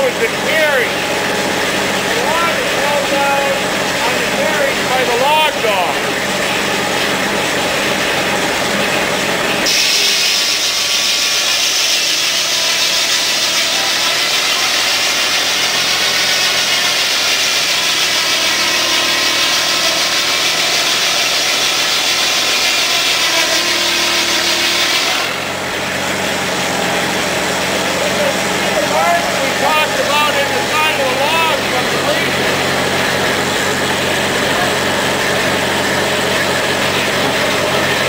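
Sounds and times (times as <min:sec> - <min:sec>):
circular saw cutting log: 0:00.0 - 0:38.0
engine humming: 0:00.0 - 0:38.0.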